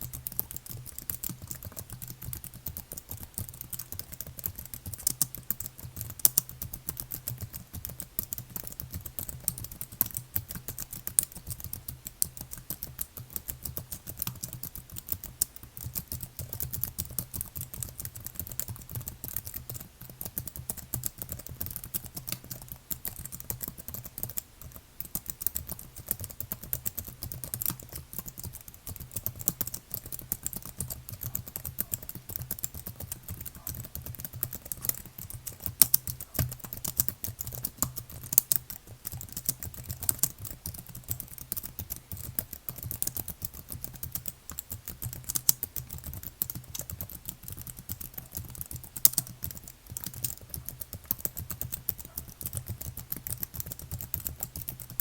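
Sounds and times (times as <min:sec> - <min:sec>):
fast typing on keyboard: 0:00.0 - 0:55.0.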